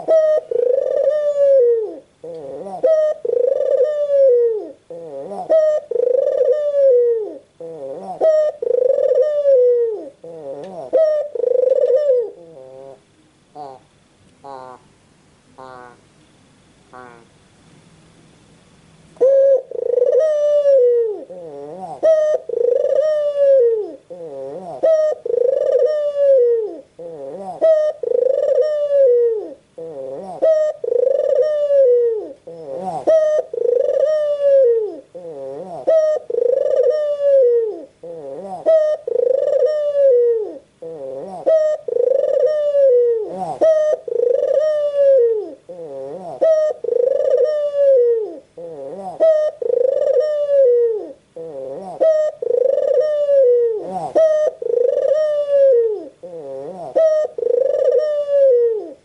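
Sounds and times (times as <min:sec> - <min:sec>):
dove cooing: 0:00.0 - 0:14.9, 0:15.6 - 0:16.1, 0:16.9 - 0:17.3, 0:19.2 - 0:59.0.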